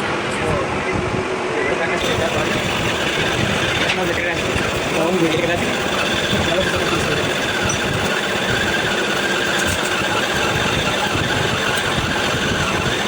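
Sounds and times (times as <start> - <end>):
workshop machine running: 2.0 - 13.0.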